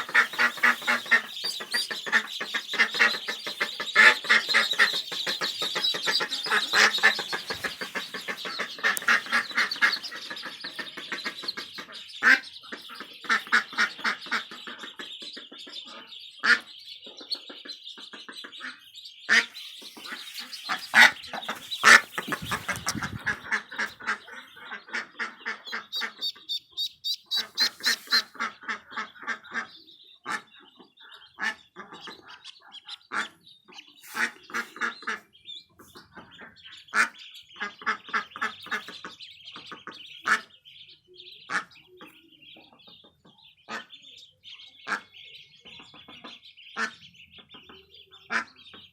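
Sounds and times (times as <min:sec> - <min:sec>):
ducklings peeping: 0:00.0 - 0:48.9
ducks quacking: 0:00.0 - 0:48.9.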